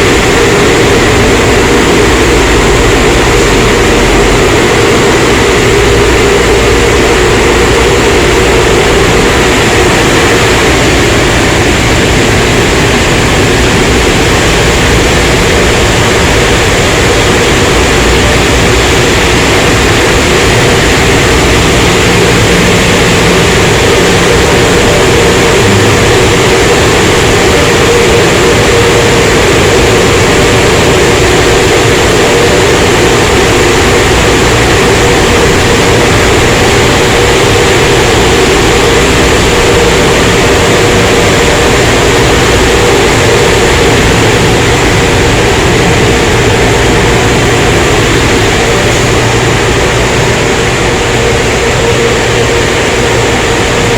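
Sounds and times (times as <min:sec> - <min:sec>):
car wash equipment rushing: 0:00.0 - 0:53.9.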